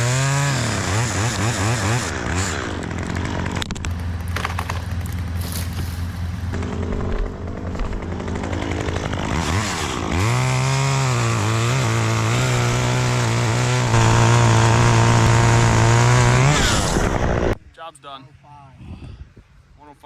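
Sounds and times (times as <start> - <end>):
small engine revving: 0.0 - 17.6.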